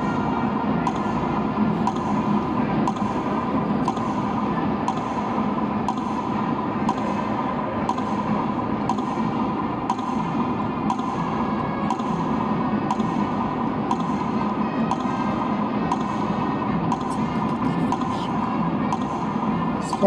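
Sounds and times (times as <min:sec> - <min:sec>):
hushed crowd hum: 0:00.0 - 0:20.0
metronome ticking over loudspeakers: 0:00.0 - 0:20.0.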